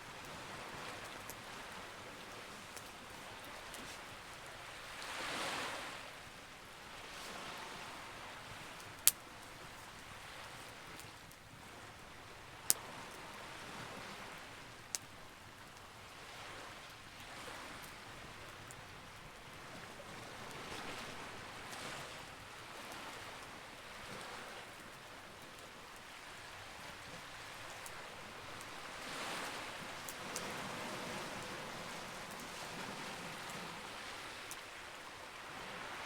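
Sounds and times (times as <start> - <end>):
campfire burning: 0.0 - 5.9, 6.8 - 35.6.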